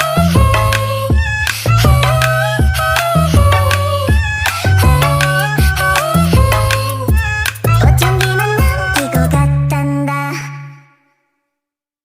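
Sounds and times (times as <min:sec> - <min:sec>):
sped-up pop song: 0:00.0 - 0:10.8.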